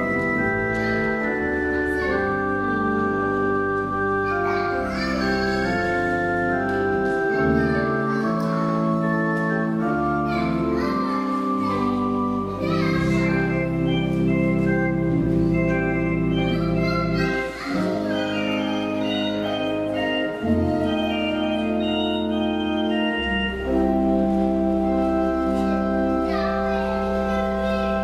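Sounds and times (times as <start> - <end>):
organ playing sustained chords: 0.0 - 28.0.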